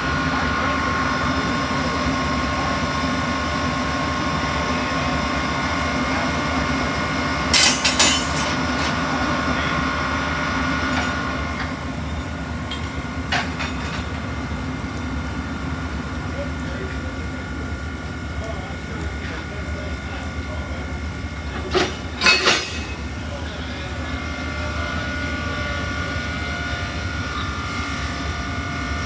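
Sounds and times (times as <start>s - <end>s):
locomotive hum and whine: 0.0s - 29.0s.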